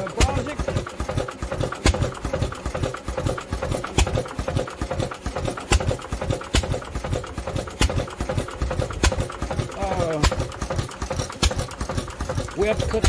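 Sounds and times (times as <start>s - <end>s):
engine firing pops: 0.0s - 13.0s
engine mechanical clatter: 0.0s - 13.0s.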